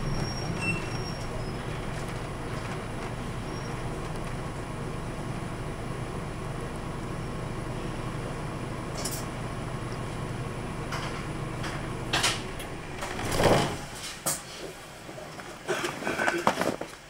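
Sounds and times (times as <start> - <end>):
bus diesel engine running: 0.0 - 16.4.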